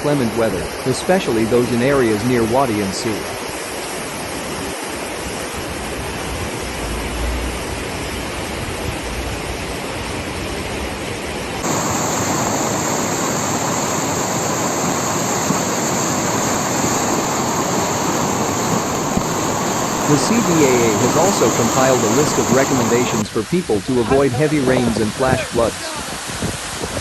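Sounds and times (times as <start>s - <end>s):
floodwater rushing: 0.0s - 26.8s.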